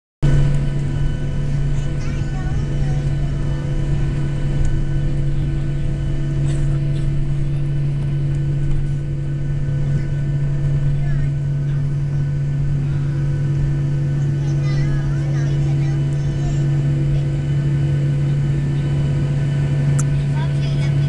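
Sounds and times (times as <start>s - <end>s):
airplane cabin engine drone: 0.2s - 21.0s.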